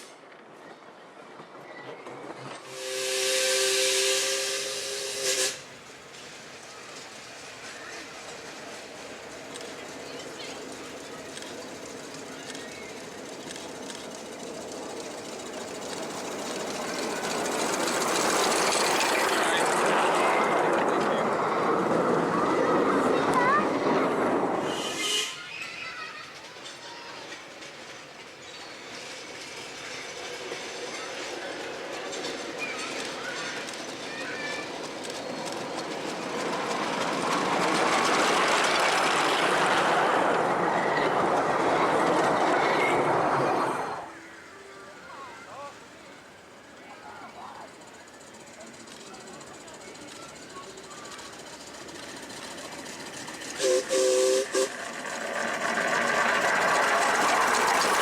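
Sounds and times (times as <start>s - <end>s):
miniature train running: 0.0s - 58.0s.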